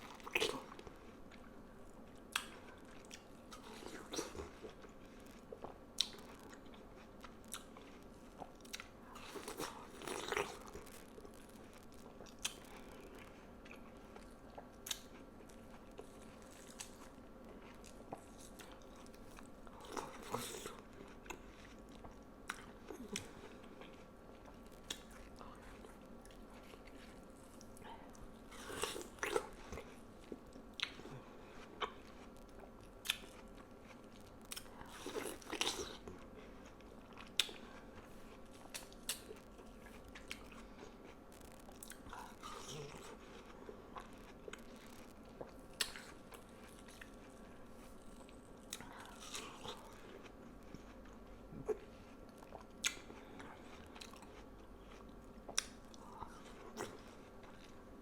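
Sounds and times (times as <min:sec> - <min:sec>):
eating watermelon crunching: 0:00.0 - 0:58.0.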